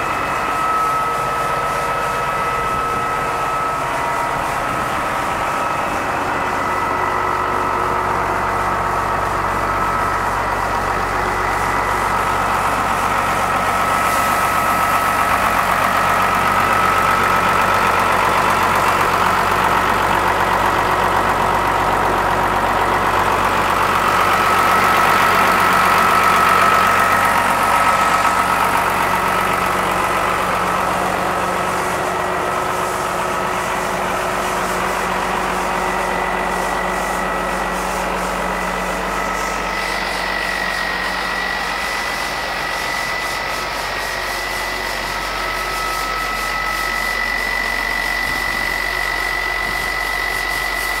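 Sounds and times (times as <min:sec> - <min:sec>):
high whine: 0:00.0 - 0:51.0
tractor diesel engine idling: 0:00.0 - 0:51.0.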